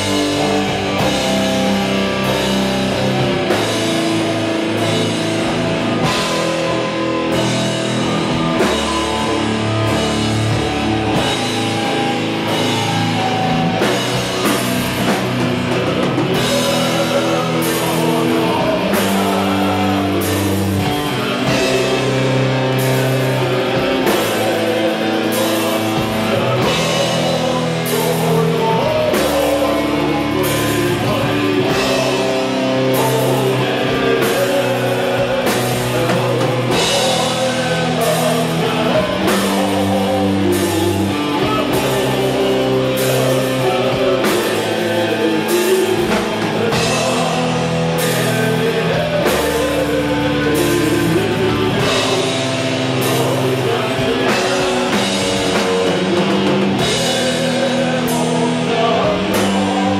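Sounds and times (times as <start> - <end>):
distorted guitars: 0.0 - 59.9
drum kit beat: 0.0 - 59.9
person singing: 0.0 - 59.9.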